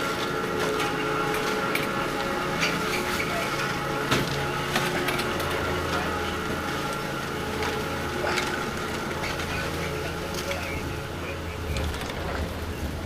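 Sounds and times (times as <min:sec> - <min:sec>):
chairlift machinery humming: 0:00.0 - 0:13.0.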